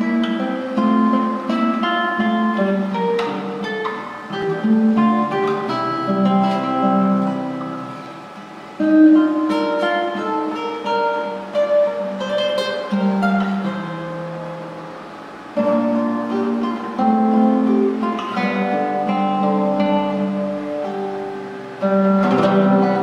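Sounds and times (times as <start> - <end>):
classical guitar playing: 0.0 - 23.0.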